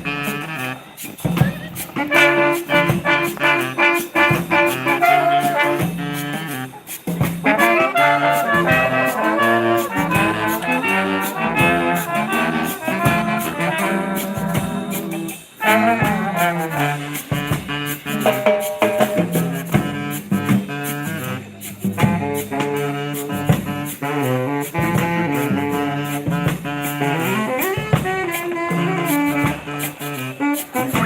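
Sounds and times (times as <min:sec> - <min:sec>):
street brass band playing: 0:00.0 - 0:31.0.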